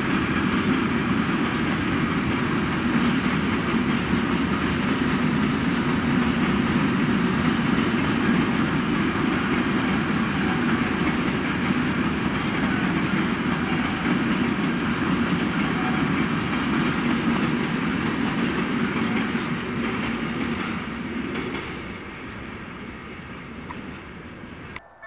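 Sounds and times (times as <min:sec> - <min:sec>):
freight train wagons rolling: 0:00.0 - 0:24.7.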